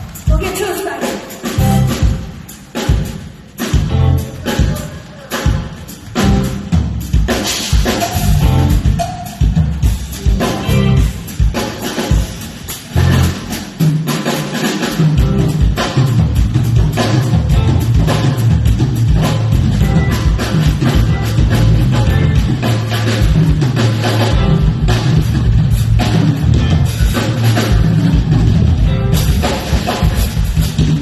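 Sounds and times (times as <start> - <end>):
funk band playing: 0.0 - 31.0.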